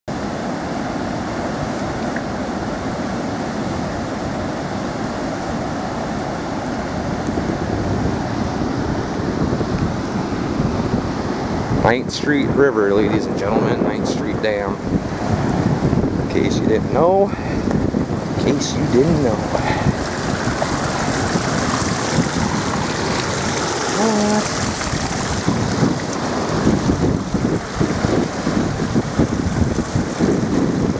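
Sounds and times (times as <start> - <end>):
water rushing through dam gates: 0.1 - 30.9
wind buffeting microphone: 0.3 - 30.9.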